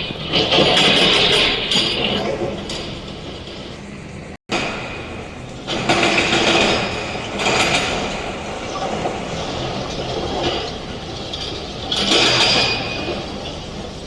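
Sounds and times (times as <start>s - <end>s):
diesel engine running: 0.0s - 14.0s
excavator rumbling and rattling: 0.0s - 14.0s.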